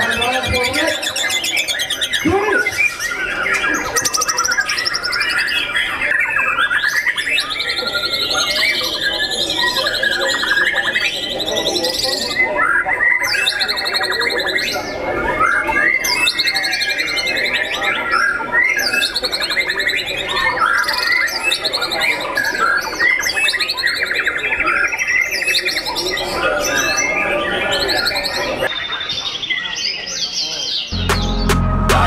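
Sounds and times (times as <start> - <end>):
birds singing: 0.0 - 31.6.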